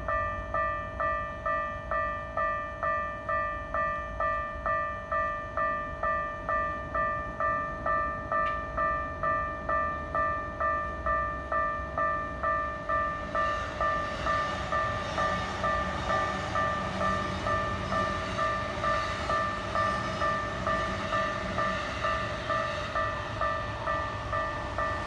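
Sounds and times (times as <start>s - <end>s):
level crossing warning bell: 0.0s - 25.0s.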